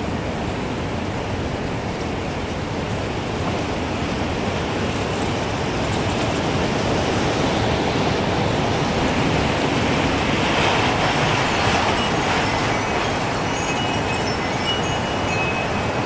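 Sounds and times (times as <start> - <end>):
gusting wind: 0.0 - 16.0.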